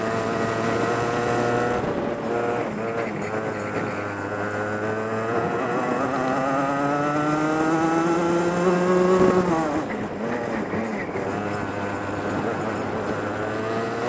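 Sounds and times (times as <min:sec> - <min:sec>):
kart engine accelerating: 0:00.0 - 0:14.0.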